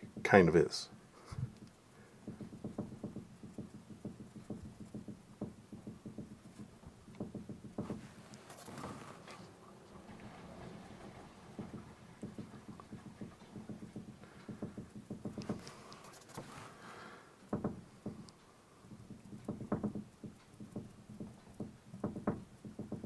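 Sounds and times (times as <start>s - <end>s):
paintbrush tapping on board: 0.0s - 0.5s, 1.4s - 8.9s, 11.6s - 16.6s, 17.4s - 23.0s.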